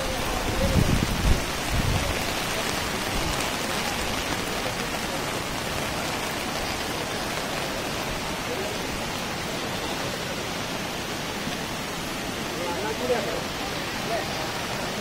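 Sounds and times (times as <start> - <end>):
heavy rain hiss: 0.0 - 15.0
river rushing: 0.0 - 15.0.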